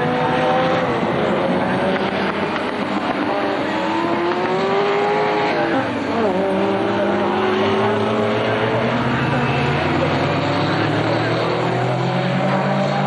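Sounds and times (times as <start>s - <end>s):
racing cars driving past: 0.0s - 13.0s.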